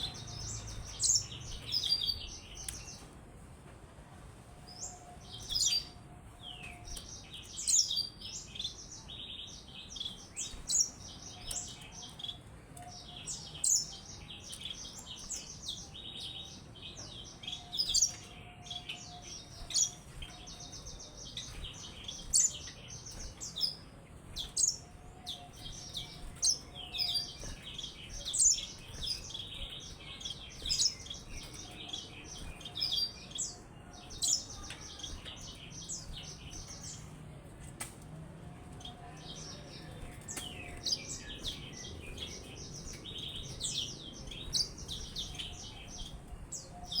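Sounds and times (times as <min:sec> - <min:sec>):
canary singing chirps and trills: 0:00.0 - 0:03.2, 0:04.6 - 0:47.0.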